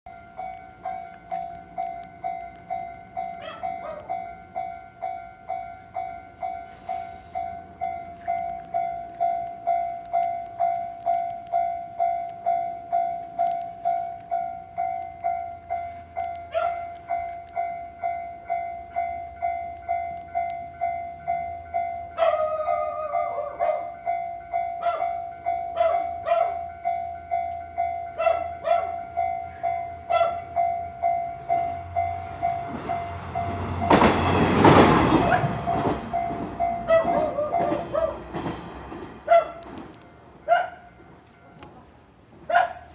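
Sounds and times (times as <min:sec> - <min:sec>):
level crossing warning bell: 0:00.1 - 0:38.5
low train rumble: 0:00.1 - 0:42.9.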